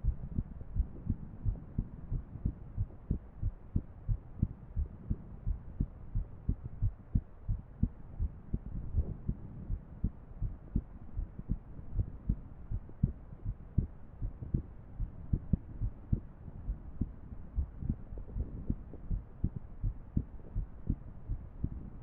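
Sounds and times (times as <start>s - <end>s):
heart beating low thuds: 0.0s - 22.0s.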